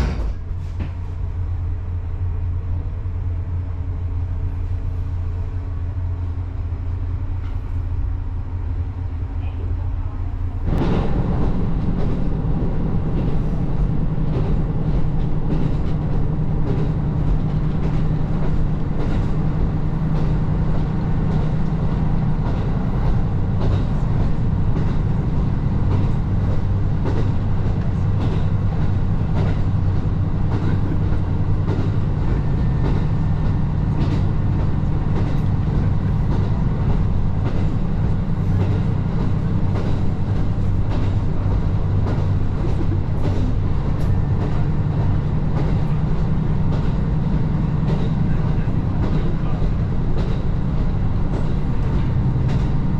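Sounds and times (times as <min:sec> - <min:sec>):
railcar engine drone: 0:00.0 - 0:52.9.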